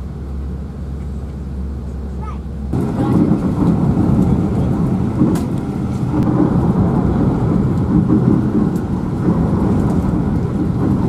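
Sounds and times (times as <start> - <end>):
ferry cabin rumble: 0.0 - 11.0.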